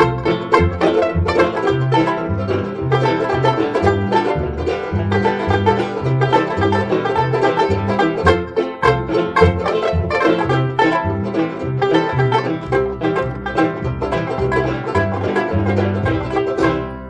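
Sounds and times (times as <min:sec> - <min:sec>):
bass line: 0:00.0 - 0:17.0
instrumental music with picked notes: 0:00.0 - 0:17.0.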